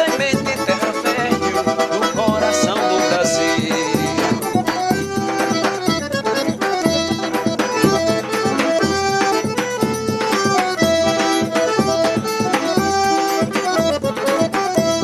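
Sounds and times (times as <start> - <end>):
accordion melody: 0.0 - 15.0
steady percussion beat: 0.0 - 15.0.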